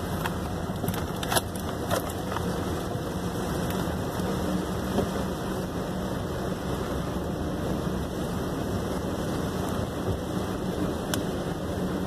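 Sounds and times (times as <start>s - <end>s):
car engine hum: 0.0s - 12.0s
rain on car: 0.0s - 12.0s
tyres on wet road: 0.0s - 12.0s.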